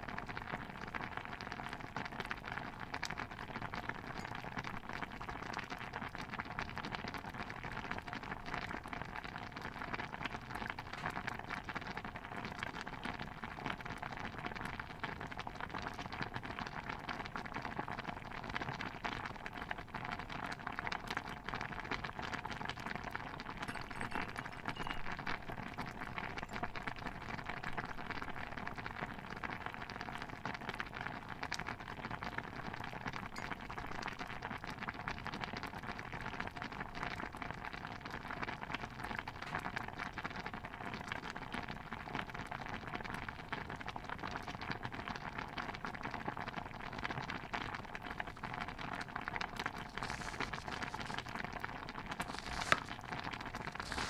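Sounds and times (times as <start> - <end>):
stew bubbling in a pot: 0.0 - 54.0.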